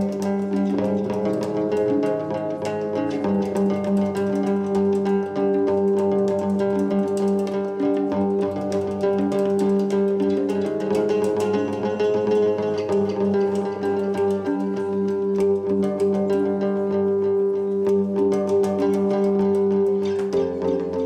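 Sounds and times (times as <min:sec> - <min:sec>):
electric guitar: 0:00.0 - 0:21.0
hang drum: 0:00.0 - 0:21.0.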